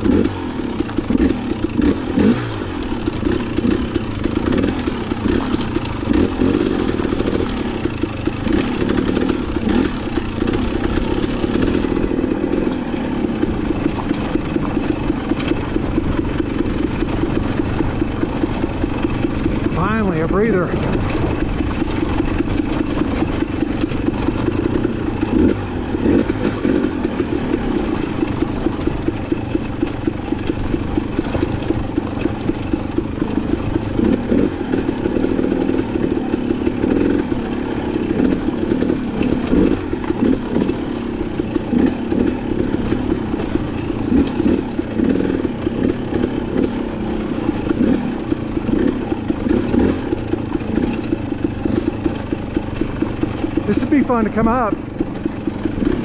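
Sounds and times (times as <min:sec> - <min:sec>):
dirt bike engine revving: 0:00.0 - 0:56.0
knocks and clatter: 0:00.0 - 0:56.0.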